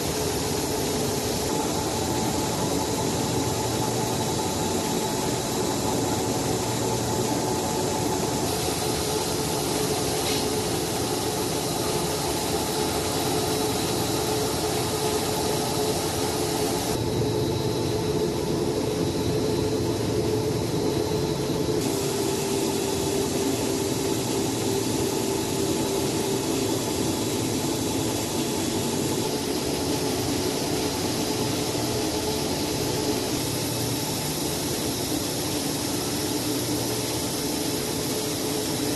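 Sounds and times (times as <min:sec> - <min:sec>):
machine humming with whine: 0:00.0 - 0:38.9.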